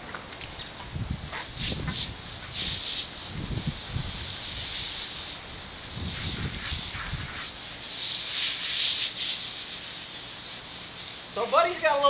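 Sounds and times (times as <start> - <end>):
hose spray nozzle hissing: 0.1 - 12.0.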